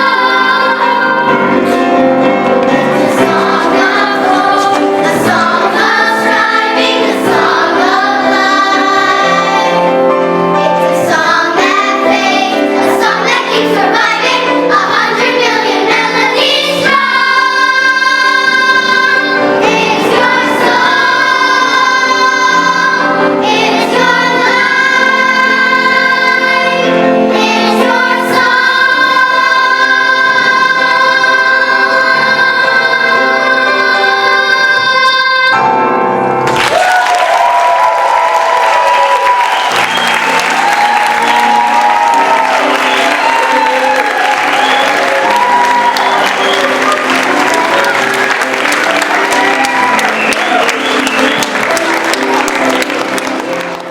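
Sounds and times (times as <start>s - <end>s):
children's chorus singing: 0.0s - 35.9s, 37.2s - 53.9s
instrumental accompaniment: 0.0s - 36.6s, 39.2s - 53.9s.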